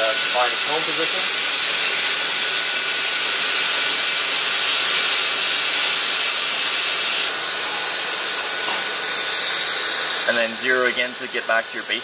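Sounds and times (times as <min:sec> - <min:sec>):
milling machine hissing: 0:00.0 - 0:12.0.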